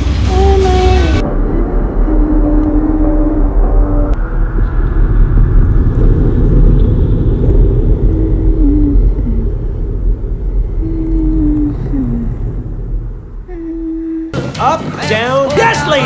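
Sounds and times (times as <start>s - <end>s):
loud low rumble: 0.0s - 16.0s.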